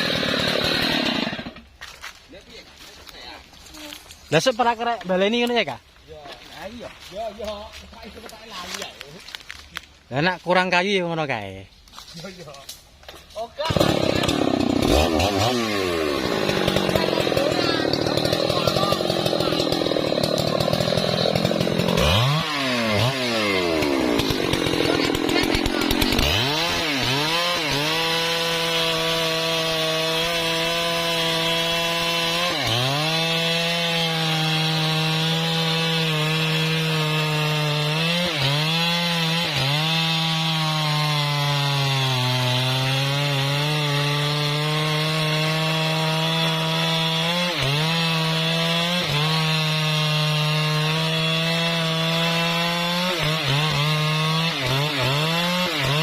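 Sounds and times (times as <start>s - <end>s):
chainsaw cutting wood: 0.0s - 2.1s, 13.0s - 56.0s.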